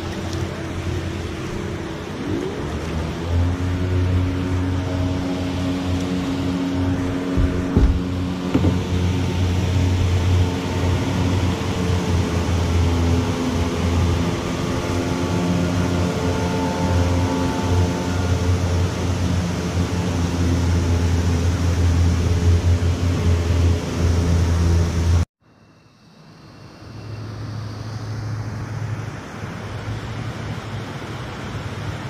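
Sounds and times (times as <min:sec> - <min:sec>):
water roaring through spillway: 0:00.0 - 0:25.2, 0:28.2 - 0:32.0
low hum: 0:00.0 - 0:32.0.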